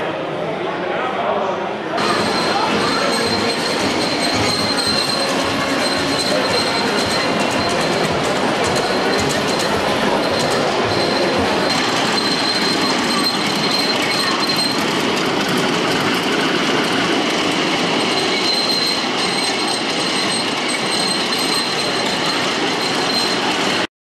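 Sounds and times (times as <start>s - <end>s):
high wheel squeal: 2.0s - 23.9s
miniature train wheels rolling: 2.0s - 23.9s.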